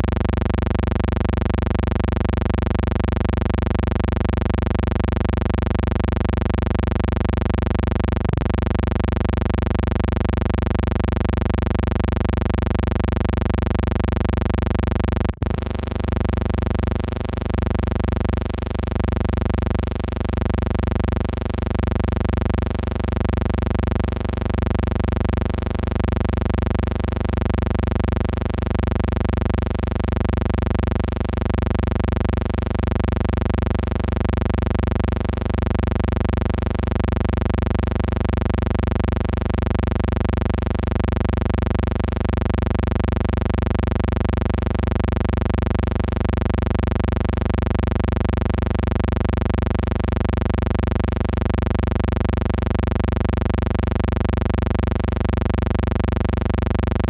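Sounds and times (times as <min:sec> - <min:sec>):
electrical hum and buzz: 0:00.0 - 0:57.0.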